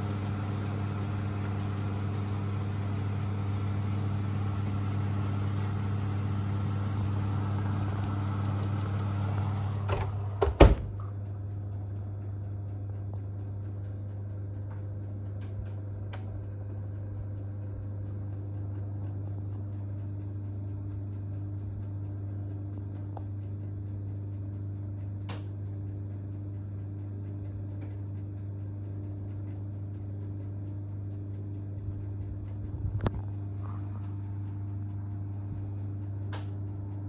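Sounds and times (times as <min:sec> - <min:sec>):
appliance low hum: 0:00.0 - 0:37.0.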